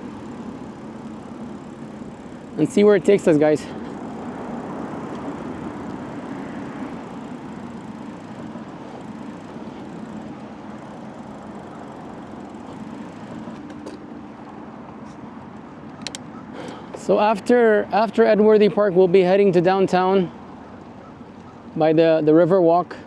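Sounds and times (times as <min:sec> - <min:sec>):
bicycle rolling on a trail: 0:00.0 - 0:23.0.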